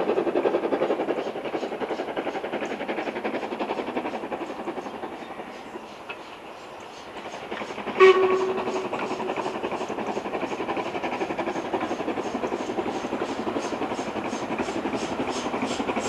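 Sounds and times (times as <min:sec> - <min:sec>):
steam locomotive chuffing: 0:00.0 - 0:16.0.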